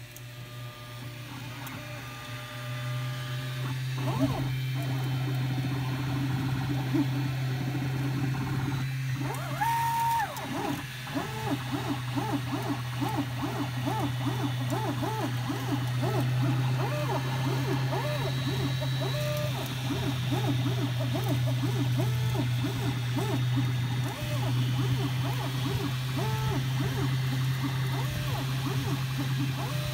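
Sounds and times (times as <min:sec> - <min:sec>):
stepper motors whining: 0:00.5 - 0:29.9.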